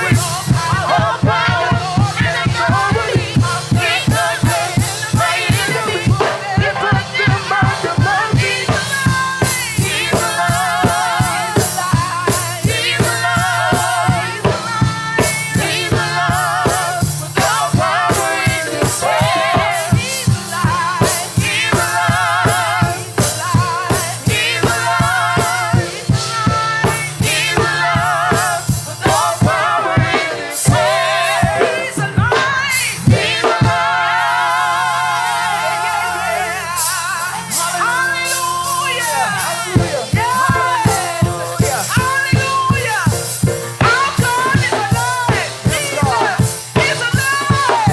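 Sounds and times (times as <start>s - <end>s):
live gospel music with choir: 0.0s - 47.9s.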